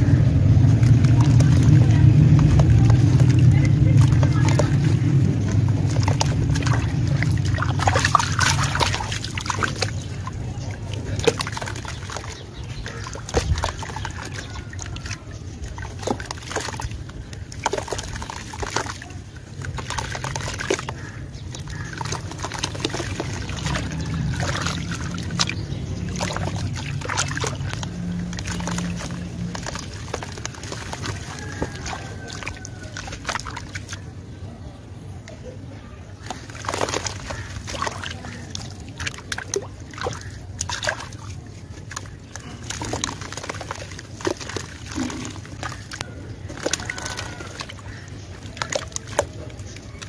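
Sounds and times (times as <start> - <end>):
dirt crumbling into water: 0.0 - 34.2, 36.2 - 50.0
muddy water splashing and sloshing: 0.0 - 50.0.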